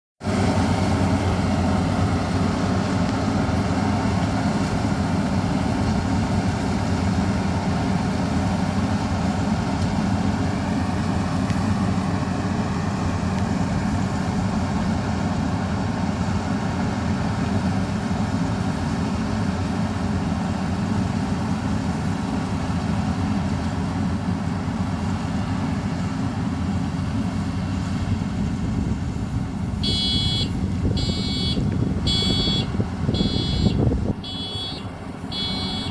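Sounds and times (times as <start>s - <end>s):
combine harvester droning: 0.2s - 35.9s.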